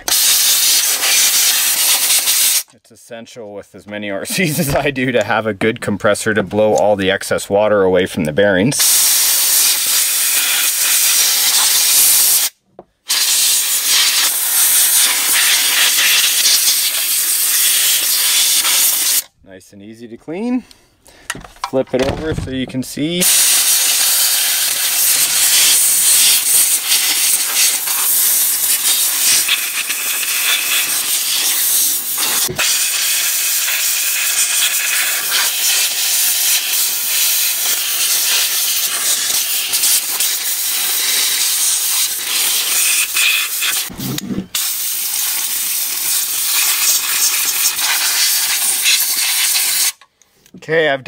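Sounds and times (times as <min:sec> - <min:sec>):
compressed air hissing: 0:00.0 - 0:02.7, 0:08.8 - 0:19.3, 0:20.9 - 0:50.0.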